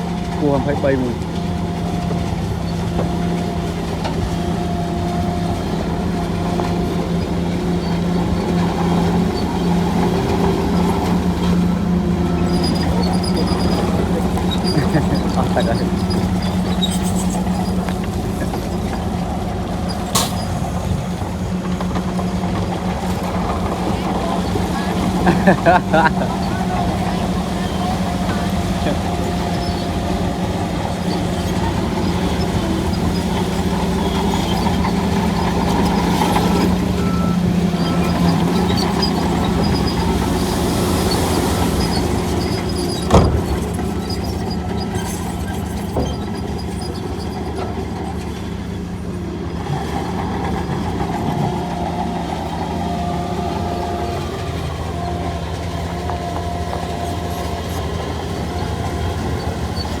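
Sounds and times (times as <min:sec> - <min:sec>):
heavy diesel machinery running: 0:00.0 - 1:00.0.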